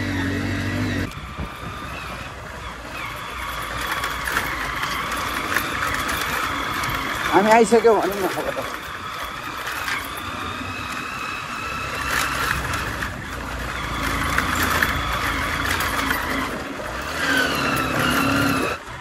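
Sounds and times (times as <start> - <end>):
engine whine: 0.0 - 19.0
road and wind noise: 0.0 - 19.0
vehicle engine running: 0.0 - 19.0.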